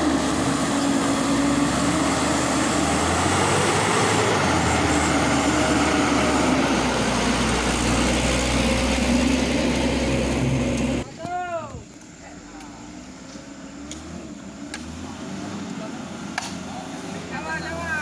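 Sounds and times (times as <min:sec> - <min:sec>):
diesel truck engine running hard: 0:00.0 - 0:11.1, 0:12.9 - 0:18.0.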